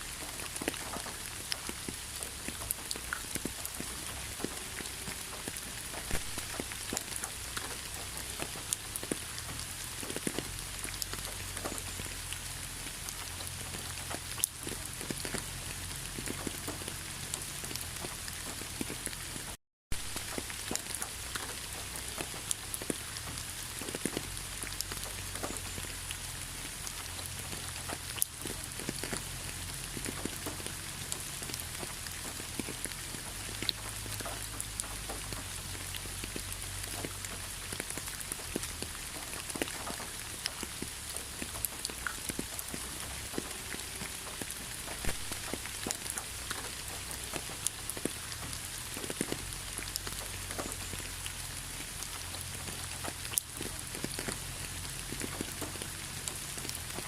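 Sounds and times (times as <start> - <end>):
rain falling: 0.0 - 57.0
raindrops ticking on a surface: 0.0 - 57.0.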